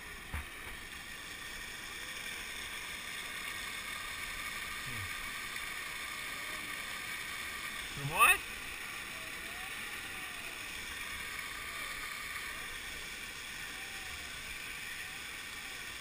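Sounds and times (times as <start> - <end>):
fountain jets splashing: 0.0 - 16.0.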